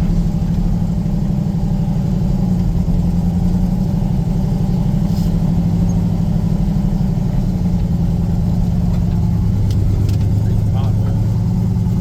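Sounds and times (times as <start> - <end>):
truck engine running steadily: 0.0 - 12.0.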